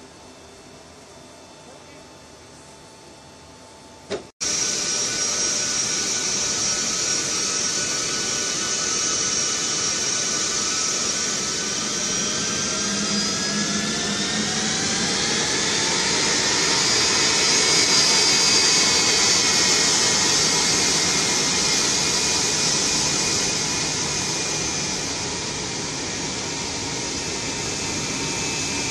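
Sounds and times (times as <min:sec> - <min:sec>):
high turbine whines: 0:04.1 - 0:28.9
jet engine roar: 0:04.1 - 0:28.9.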